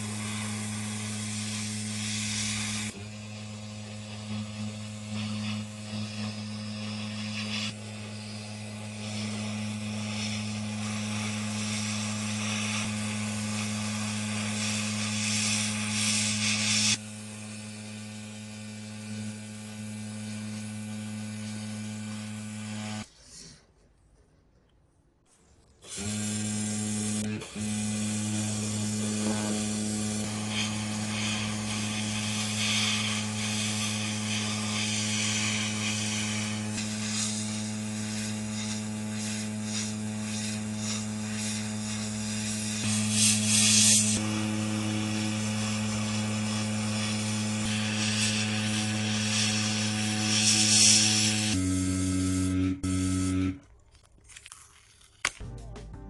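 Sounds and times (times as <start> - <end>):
power tool motor humming: 0.0 - 23.1, 25.8 - 53.6.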